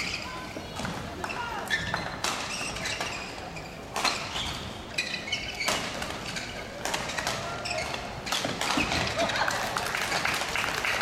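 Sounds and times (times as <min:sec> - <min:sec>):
shoes squeaking on court: 0:00.0 - 0:09.4.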